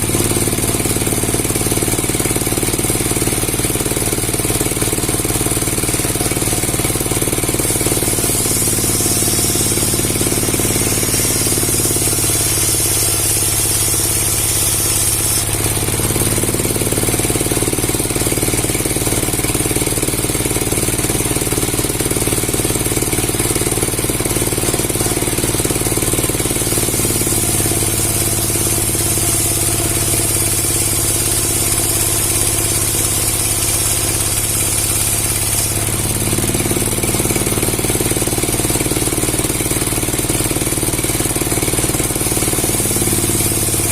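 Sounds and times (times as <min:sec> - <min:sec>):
engine-driven machinery rattling: 0:00.0 - 0:43.9.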